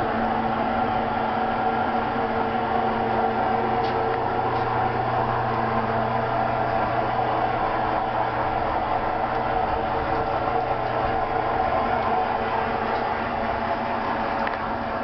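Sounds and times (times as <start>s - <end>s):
drive motor humming: 0.0s - 15.0s.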